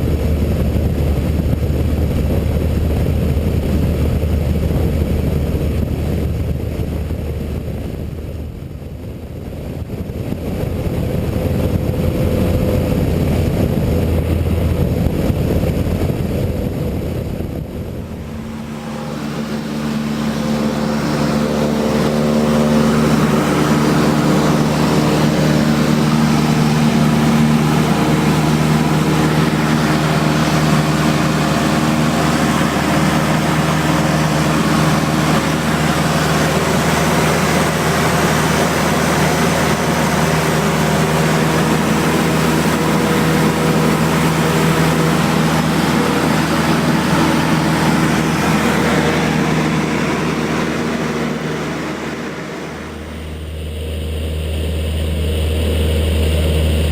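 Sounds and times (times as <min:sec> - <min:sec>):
propeller plane engine droning: 0:00.0 - 0:56.9.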